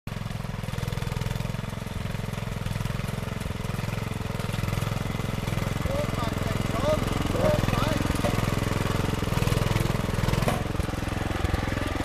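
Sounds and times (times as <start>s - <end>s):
rotavator engine running: 0.1s - 12.0s
tines churning turf: 0.1s - 12.0s.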